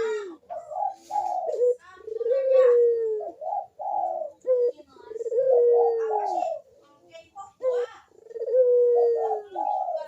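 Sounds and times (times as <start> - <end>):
dove cooing: 0.0 - 10.0.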